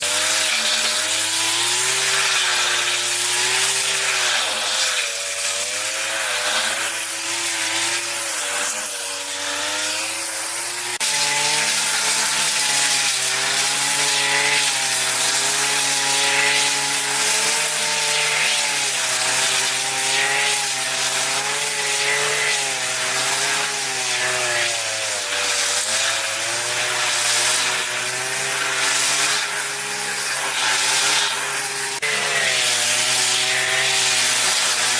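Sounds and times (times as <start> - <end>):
power saw cutting wood: 0.0 - 34.9.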